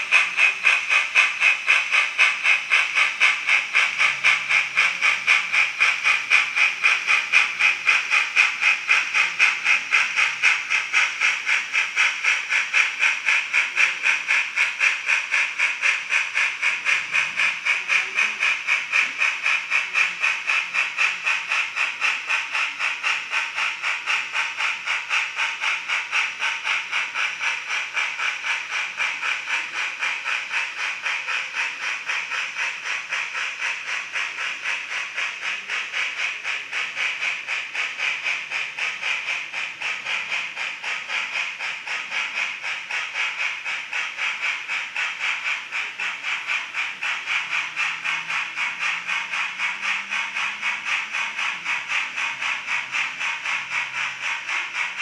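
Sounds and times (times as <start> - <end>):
model steam locomotive chuffing: 0.0 - 55.0.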